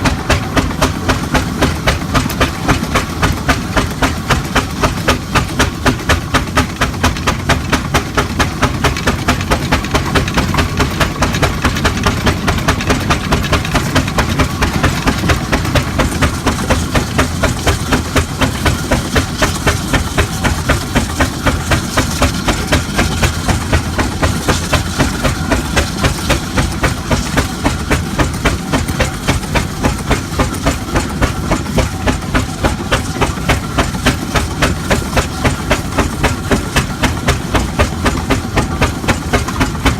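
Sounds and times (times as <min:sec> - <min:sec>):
steam engine chuffing: 0:00.0 - 0:39.9.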